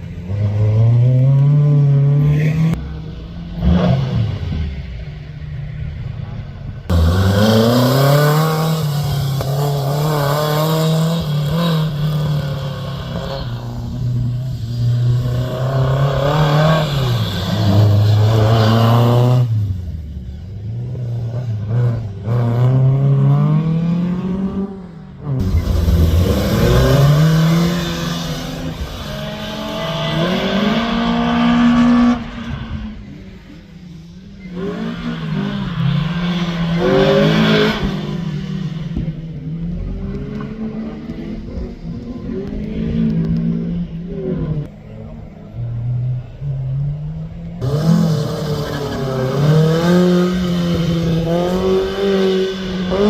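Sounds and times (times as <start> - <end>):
rally car engine revving: 6.8 - 53.0.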